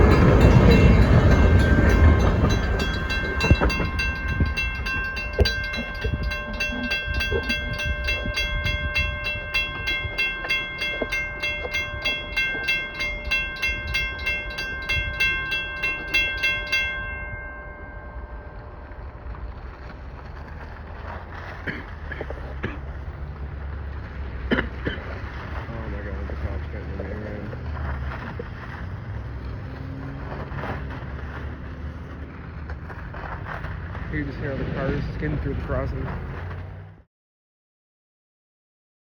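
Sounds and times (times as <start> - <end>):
crossing warning bell dinging: 0.0 - 36.9
rail cars rumbling and clunking: 0.0 - 37.0.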